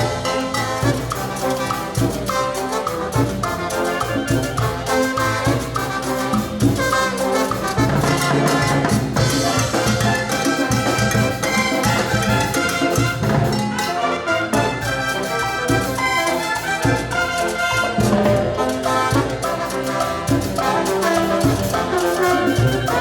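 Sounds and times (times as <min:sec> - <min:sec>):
trumpets and trombones: 0:00.0 - 0:23.0.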